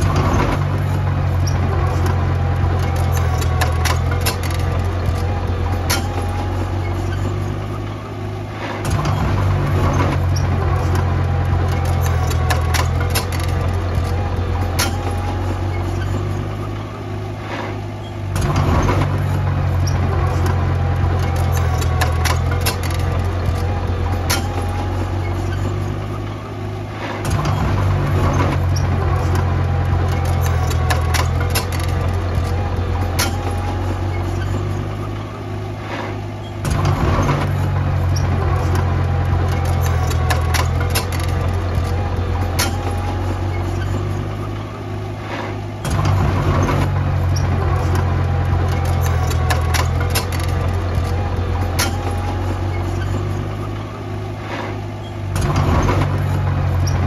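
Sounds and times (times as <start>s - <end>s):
metallic clicks and clanks: 0.0s - 8.0s, 8.6s - 26.4s, 27.0s - 57.0s
diesel engine of heavy machinery: 0.0s - 57.0s.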